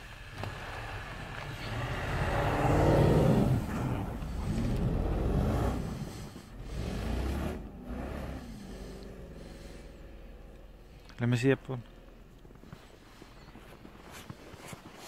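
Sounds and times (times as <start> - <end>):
car engines revving hard: 0.0 - 14.6.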